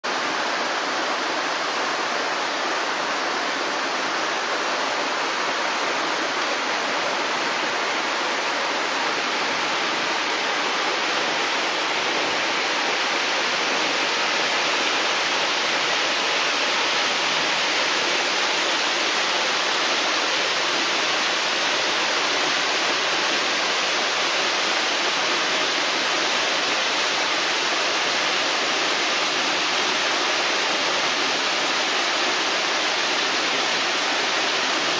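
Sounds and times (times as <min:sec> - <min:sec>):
water rushing from dam: 0:00.0 - 0:34.9.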